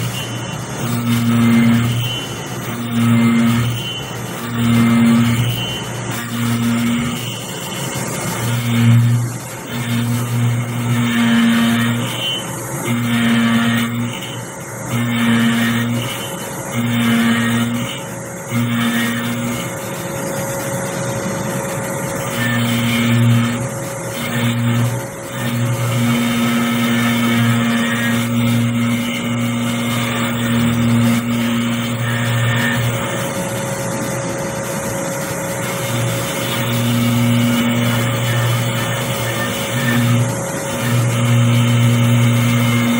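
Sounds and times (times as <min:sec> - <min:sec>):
end mill cutting metal: 0:00.0 - 0:42.9
low machine hum: 0:00.0 - 0:42.9
milling spindle whine: 0:00.0 - 0:42.9.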